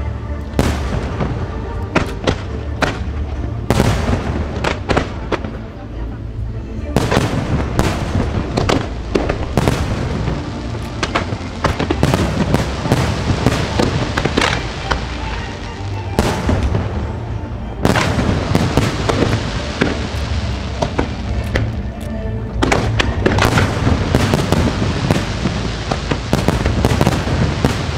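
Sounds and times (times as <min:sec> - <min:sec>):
fireworks bursting: 0:00.0 - 0:05.8, 0:06.9 - 0:27.9
fireworks crackling: 0:00.0 - 0:06.2, 0:06.8 - 0:27.9.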